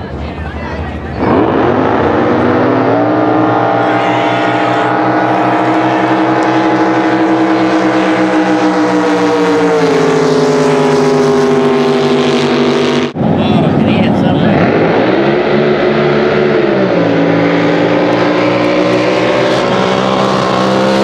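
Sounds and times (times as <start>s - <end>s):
boat engine at high revs: 0.8s - 21.0s.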